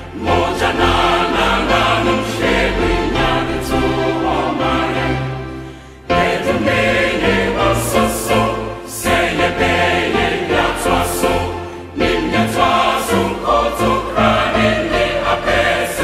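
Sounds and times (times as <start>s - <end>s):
background music with choir: 0.0s - 16.0s.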